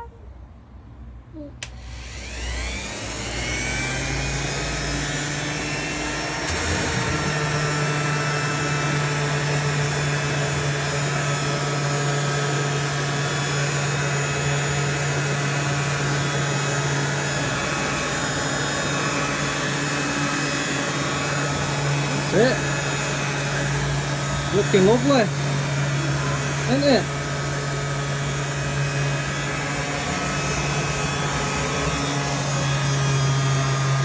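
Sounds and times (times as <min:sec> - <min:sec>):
electric sander on metal: 0:01.6 - 0:34.0.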